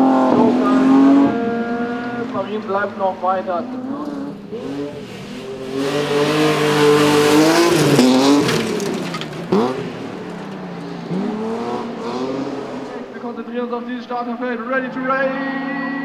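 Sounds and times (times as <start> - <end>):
car engine revving hard: 0.0 - 13.4.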